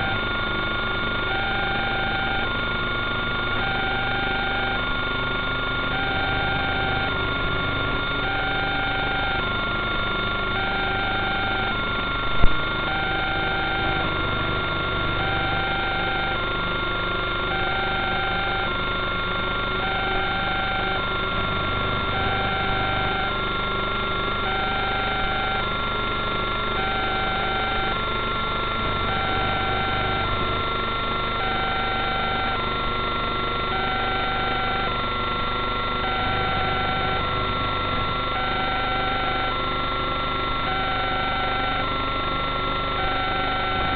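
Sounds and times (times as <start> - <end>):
electronic beeping: 0.0 - 43.9.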